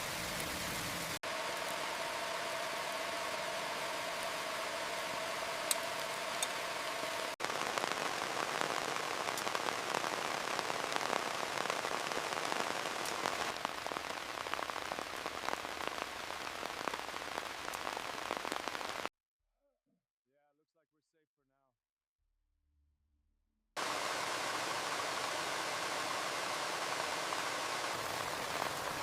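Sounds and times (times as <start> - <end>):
heavy rain falling: 0.0 - 19.1, 23.8 - 29.0.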